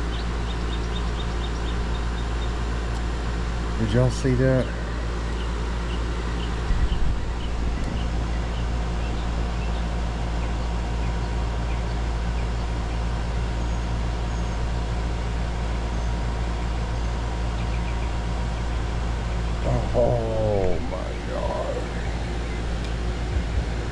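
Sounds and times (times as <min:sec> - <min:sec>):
air conditioner unit humming: 0:00.0 - 0:23.9.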